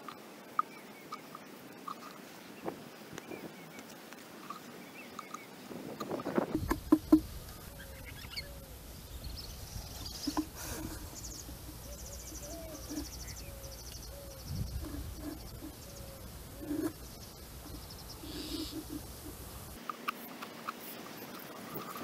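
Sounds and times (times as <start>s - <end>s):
soft low bird calls: 0.0s - 19.8s
birds chirping and trilling: 0.0s - 22.0s.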